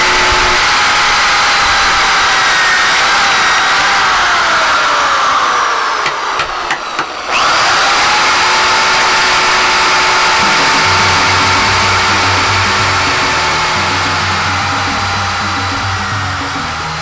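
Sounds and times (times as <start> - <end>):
electric drill whining: 0.0 - 17.0.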